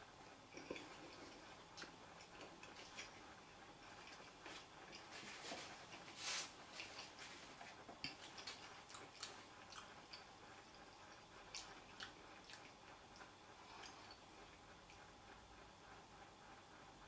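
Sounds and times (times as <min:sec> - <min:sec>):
faint chewing with mouth clicks: 0:00.2 - 0:15.4.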